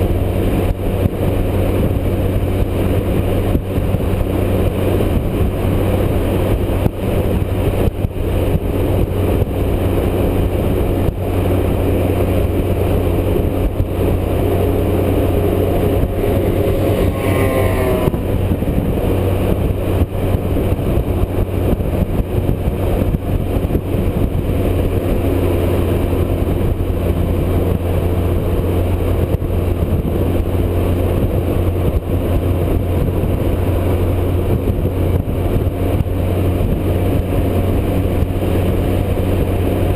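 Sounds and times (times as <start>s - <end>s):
motorcycle engine drone: 0.0s - 39.9s
rising whine: 0.0s - 39.9s
wind rush noise: 0.0s - 39.9s.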